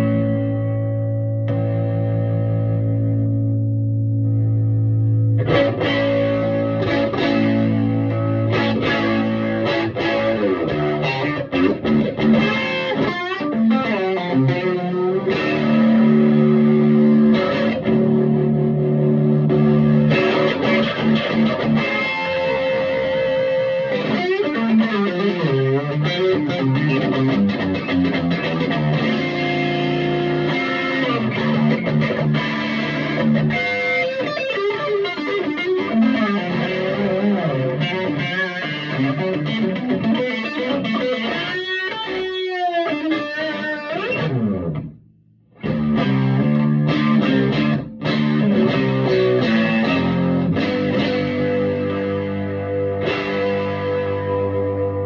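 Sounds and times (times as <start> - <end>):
electric guitar chords and lines: 0.0 - 55.0.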